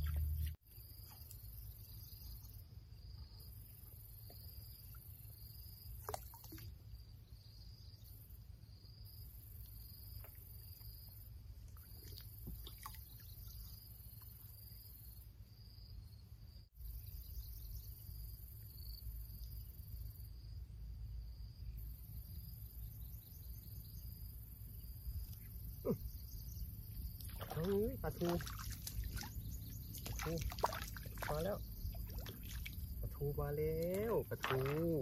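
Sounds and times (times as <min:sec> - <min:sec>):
insects buzzing and chirping: 0:00.0 - 0:35.0.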